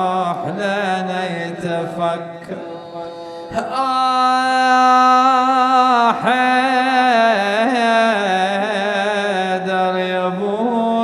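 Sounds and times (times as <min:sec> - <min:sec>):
man chanting mournfully: 0:00.0 - 0:11.0.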